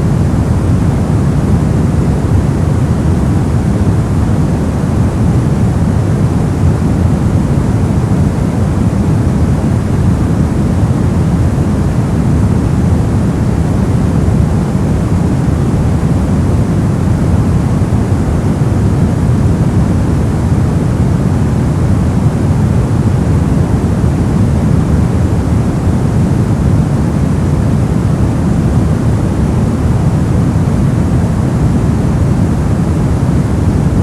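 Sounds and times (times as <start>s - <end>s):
low white noise: 0.0s - 34.0s.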